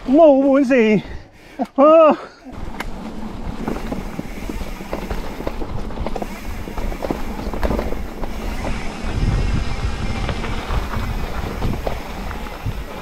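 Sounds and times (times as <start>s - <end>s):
tyres and wind rumbling: 0.0s - 13.0s
bike knocking and rattling: 2.5s - 13.0s.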